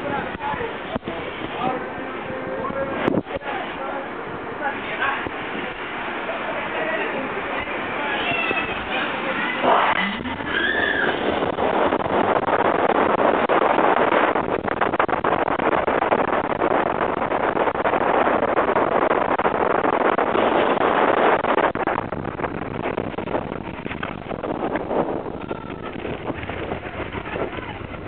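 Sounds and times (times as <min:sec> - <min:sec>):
roller coaster speeding on track: 0:00.0 - 0:28.0
wind rushing over microphone: 0:00.0 - 0:28.0.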